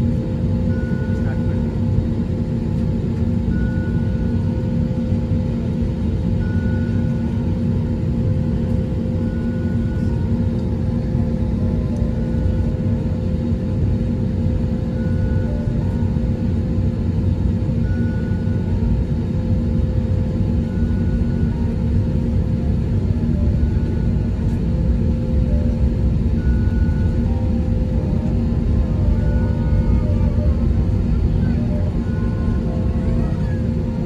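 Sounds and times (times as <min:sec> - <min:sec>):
aircraft cabin rumble: 0:00.0 - 0:34.0
steady hum: 0:00.0 - 0:34.0.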